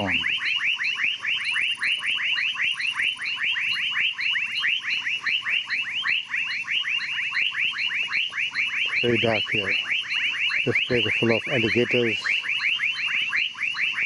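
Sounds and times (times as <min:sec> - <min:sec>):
night animal calling: 0:00.0 - 0:14.0.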